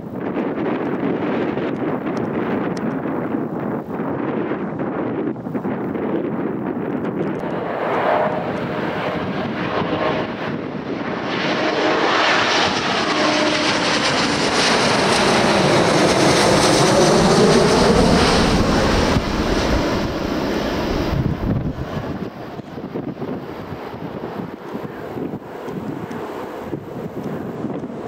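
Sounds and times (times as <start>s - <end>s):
jet airliner passing: 0.0s - 28.0s.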